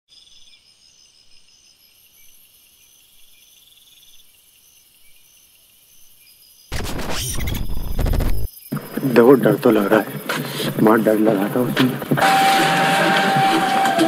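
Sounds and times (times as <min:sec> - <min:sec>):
crickets chirping: 0:00.1 - 0:12.1.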